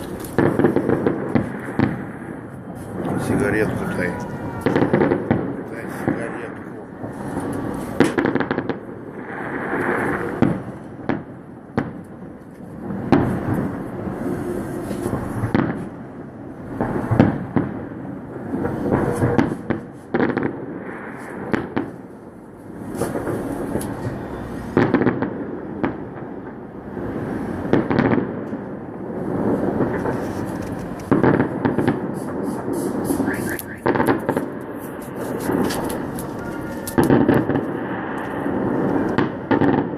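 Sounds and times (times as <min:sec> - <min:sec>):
firework shells bursting with bangs: 0:00.0 - 0:39.9
fireworks crackling and rumbling: 0:00.0 - 0:39.9.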